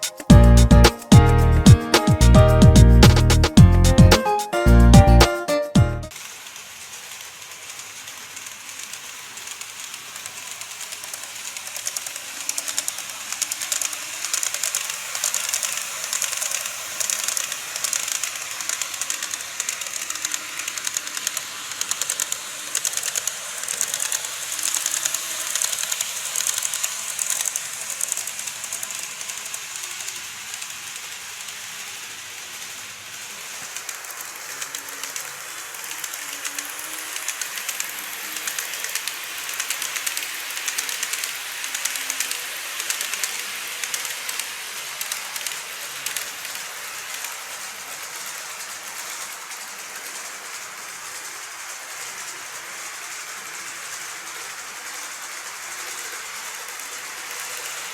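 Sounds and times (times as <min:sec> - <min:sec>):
model train wheels clicking: 0:00.0 - 0:02.4, 0:06.1 - 0:57.9.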